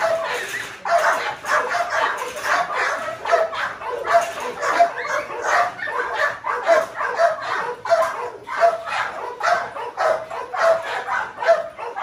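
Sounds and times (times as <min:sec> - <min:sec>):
dog barking: 0:00.0 - 0:12.0.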